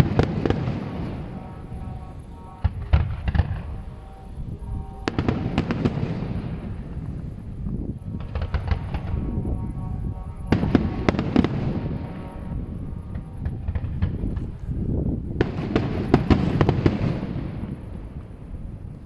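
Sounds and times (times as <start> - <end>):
fireworks bursting with bangs: 0.0 - 4.1, 5.0 - 14.6, 15.3 - 18.5
fireworks crackling: 0.0 - 19.0.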